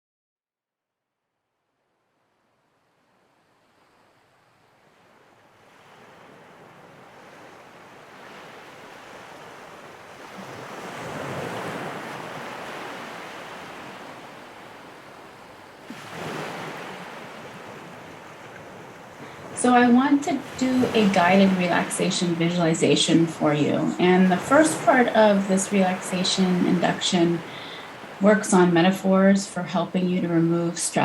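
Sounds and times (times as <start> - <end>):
ocean waves washing ashore: 2.0 - 31.0.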